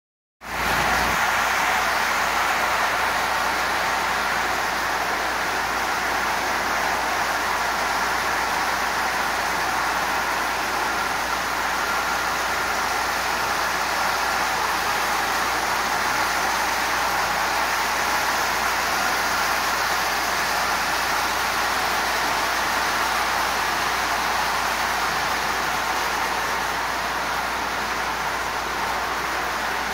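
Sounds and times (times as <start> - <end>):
toy train running on metal rails: 0.7 - 29.9.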